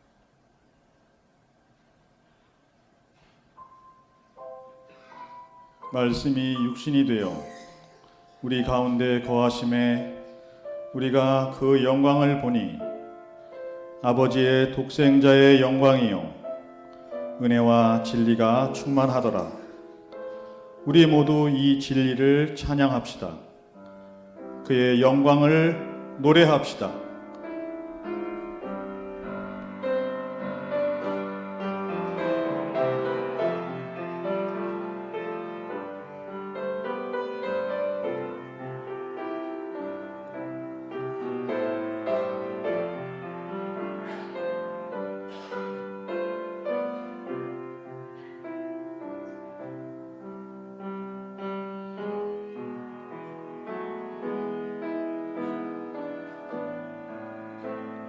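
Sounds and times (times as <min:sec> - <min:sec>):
slow piano chords: 0:00.0 - 0:58.0.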